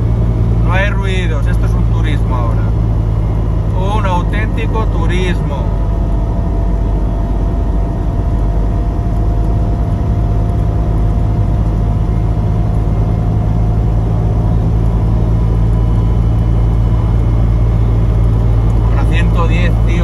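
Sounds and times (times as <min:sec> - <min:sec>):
car engine drone: 0:00.0 - 0:20.0.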